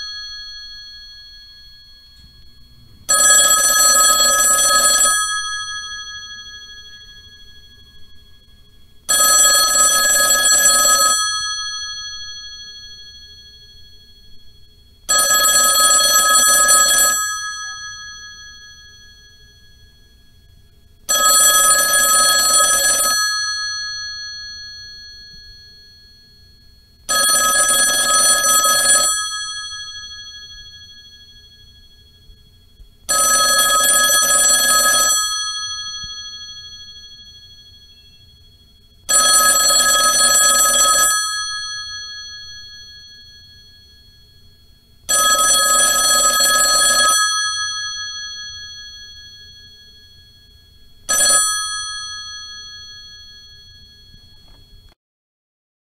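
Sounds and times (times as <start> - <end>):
telephone bell ringing: 0.0 - 54.9.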